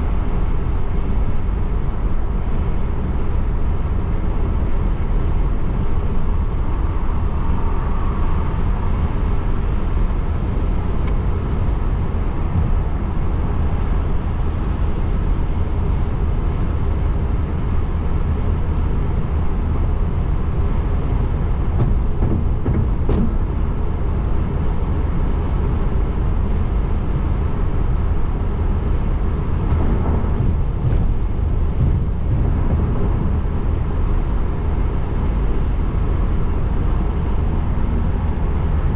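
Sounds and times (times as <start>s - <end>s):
car road noise: 0.0s - 38.9s.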